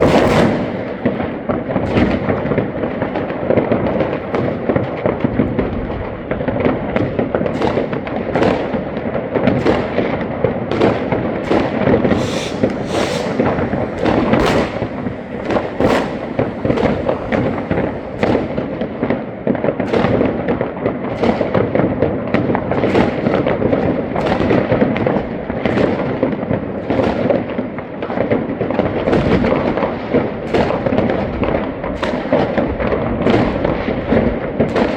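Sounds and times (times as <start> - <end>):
fireworks bangs: 0.0 - 29.9
fireworks crackle and rumble: 0.0 - 34.9.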